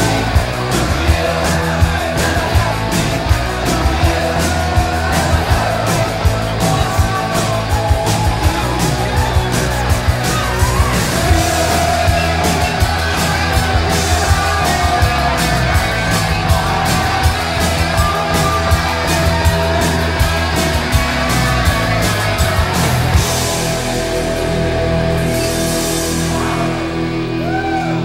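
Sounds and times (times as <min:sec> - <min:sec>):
driving drumbeat: 0:00.0 - 0:27.8
distorted electric guitar: 0:00.0 - 0:28.0.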